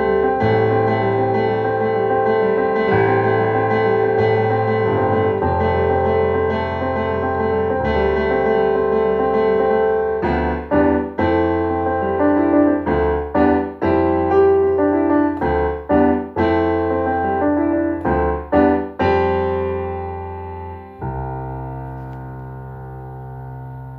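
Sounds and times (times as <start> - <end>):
piano chords: 0.0 - 23.9.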